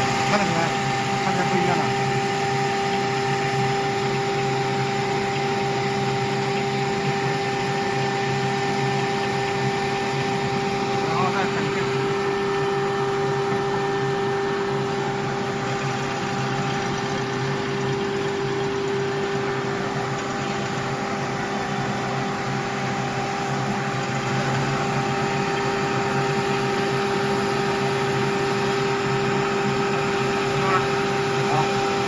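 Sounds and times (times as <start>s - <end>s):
milling machine motor humming: 0.0s - 32.0s.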